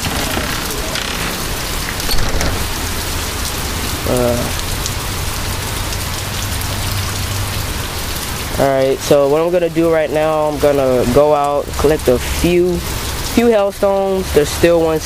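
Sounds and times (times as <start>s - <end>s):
rain falling on grass and pavement: 0.0s - 15.0s.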